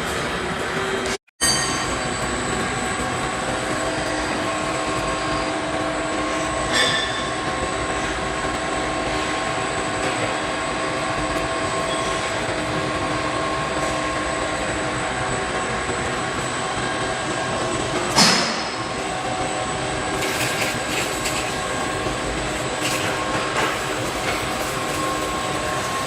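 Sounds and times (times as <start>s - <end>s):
industrial machinery running: 0.0s - 26.0s.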